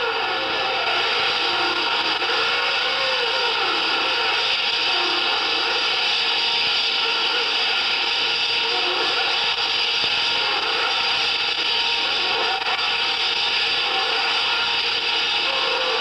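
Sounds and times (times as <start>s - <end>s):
grinding noise music: 0.0s - 16.0s.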